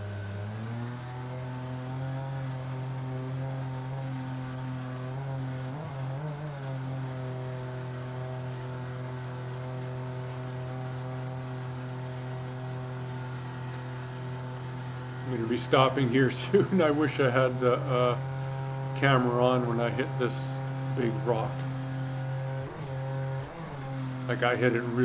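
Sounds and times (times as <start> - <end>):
jet boat motor droning: 0.0 - 25.0.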